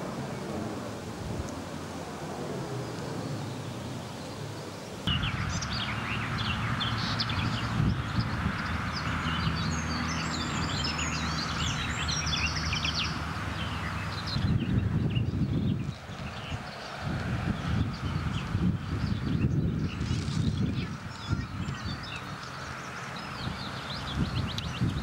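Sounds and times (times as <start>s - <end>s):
small birds chirping and warbling: 2.8s - 25.0s.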